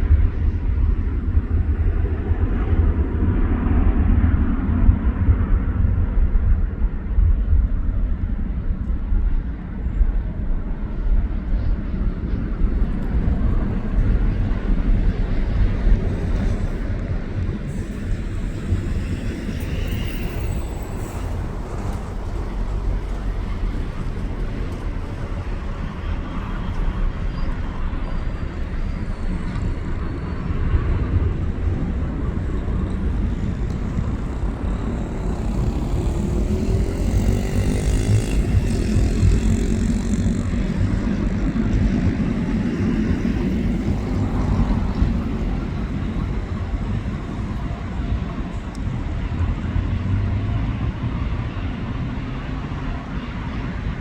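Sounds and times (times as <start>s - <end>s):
jet engines rumbling: 8.2s - 54.0s.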